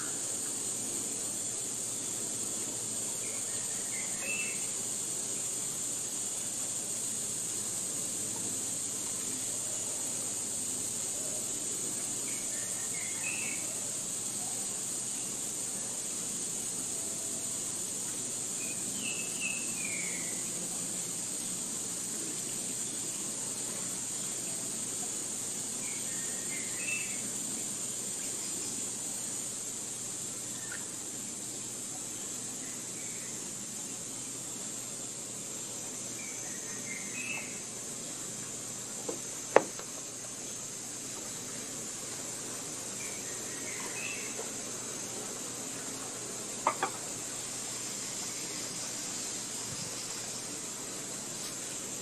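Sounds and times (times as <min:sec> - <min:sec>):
high-pitched insect drone: 0:00.0 - 0:52.0.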